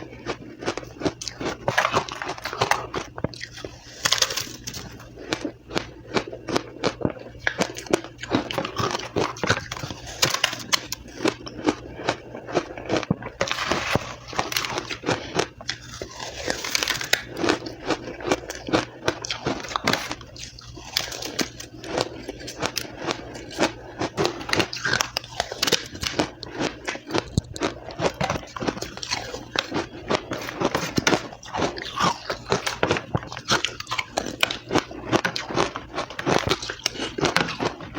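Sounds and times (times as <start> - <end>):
chewing crushed ice: 0.0 - 37.9.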